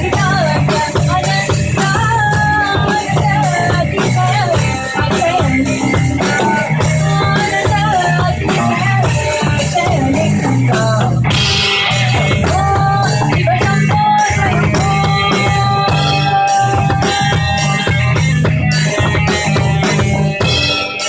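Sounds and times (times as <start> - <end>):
bass guitar: 0.0 - 21.0
drum kit with cymbal hits: 0.0 - 21.0
electric guitar: 0.0 - 21.0.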